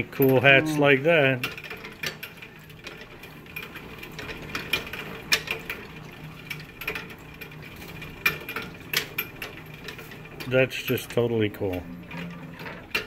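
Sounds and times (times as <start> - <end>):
lathe gears clicking and clattering: 0.0 - 13.0.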